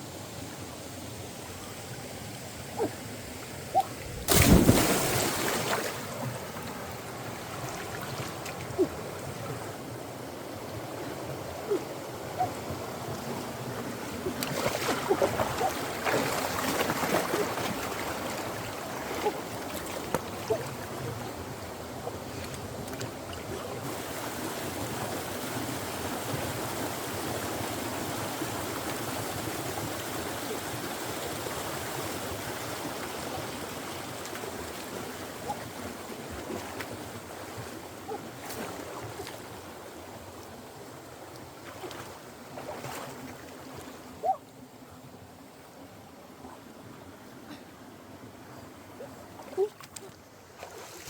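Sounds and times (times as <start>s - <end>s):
stream water rushing: 0.1s - 51.0s.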